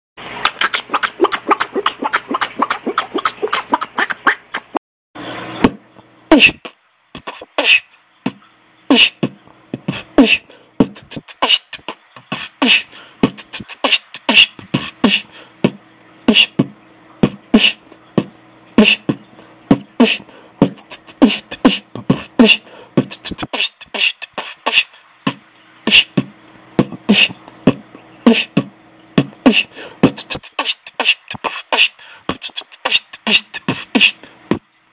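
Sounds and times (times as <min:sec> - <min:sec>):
clicking mouth percussion: 0:00.4 - 0:04.8, 0:05.7 - 0:34.6
human beatboxing: 0:00.4 - 0:04.8, 0:05.6 - 0:34.6.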